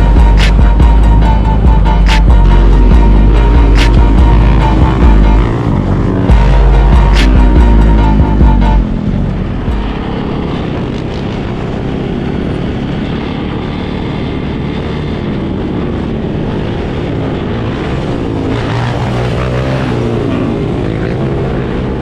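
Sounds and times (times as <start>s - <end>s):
dirt bike engines droning: 0.0s - 22.0s
engines revving: 0.0s - 22.0s.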